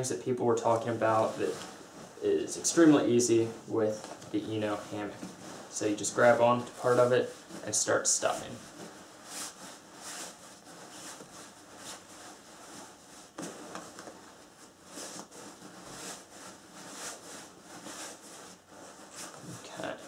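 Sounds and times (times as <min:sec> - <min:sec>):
nylon fabric rustling: 0:00.0 - 0:20.0.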